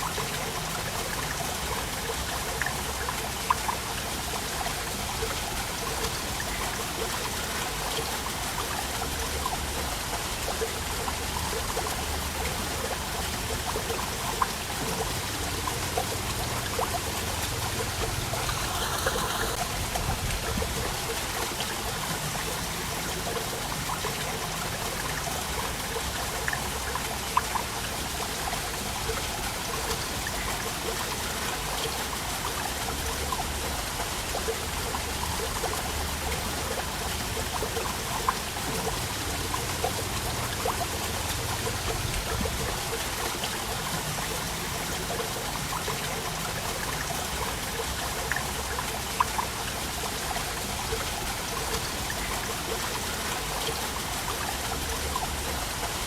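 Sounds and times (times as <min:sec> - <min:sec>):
rush of falling water: 0:00.0 - 0:56.0
water splashes and drips: 0:00.0 - 0:56.0.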